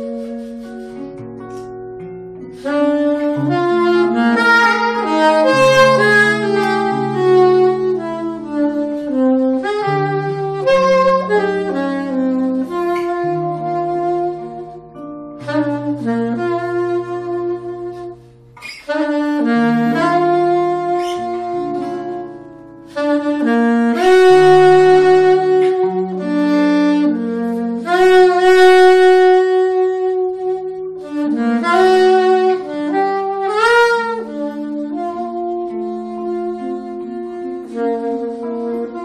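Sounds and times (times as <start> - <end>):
amplified guitar: 0.0 - 39.0
soprano saxophone: 0.0 - 39.0.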